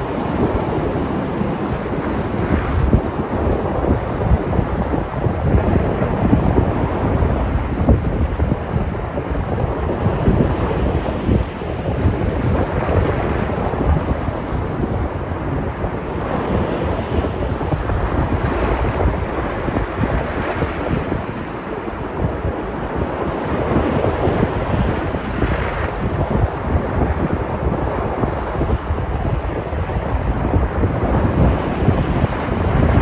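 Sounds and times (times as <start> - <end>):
sea surf washing in: 0.0 - 33.0
wind buffeting microphone: 0.0 - 33.0.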